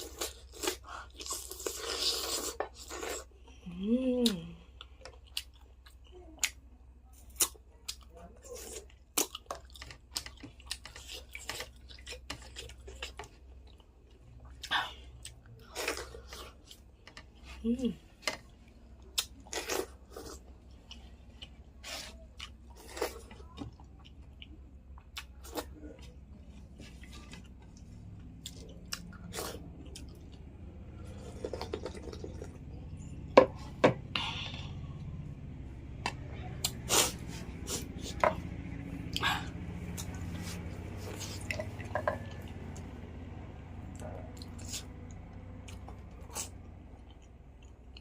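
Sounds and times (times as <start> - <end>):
person chewing food: 0.0 - 3.6, 4.2 - 48.0.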